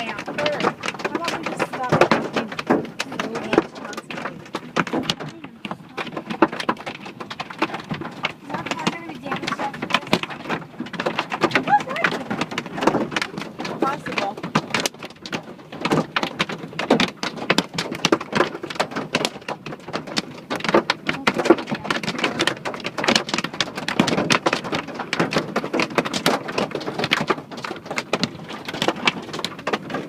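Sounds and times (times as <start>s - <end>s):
hailstones clattering: 0.0s - 30.0s.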